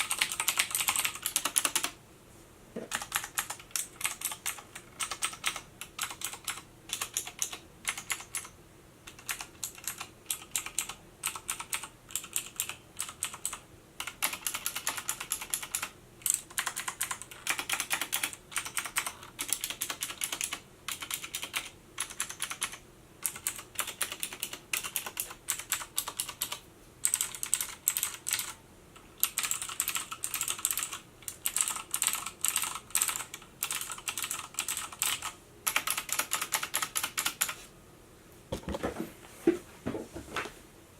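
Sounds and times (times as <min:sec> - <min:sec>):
mechanical keyboard typing: 0:00.0 - 0:02.0, 0:02.8 - 0:37.6.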